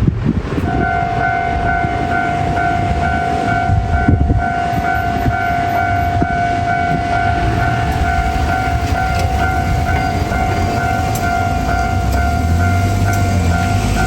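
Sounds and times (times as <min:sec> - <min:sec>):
low rumble: 0:00.0 - 0:14.0
railroad crossing warning bell: 0:00.6 - 0:14.0.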